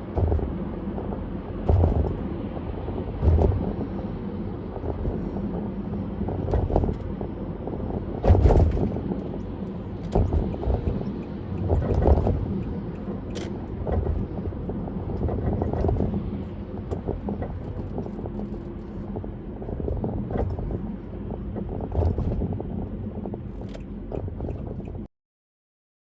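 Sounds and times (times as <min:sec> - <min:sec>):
tyre and road noise: 0:00.0 - 0:25.1
wind on microphone: 0:00.0 - 0:25.1.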